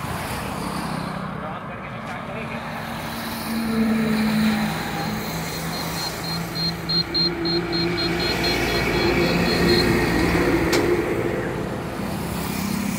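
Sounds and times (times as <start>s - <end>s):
truck passing: 0.0s - 12.9s.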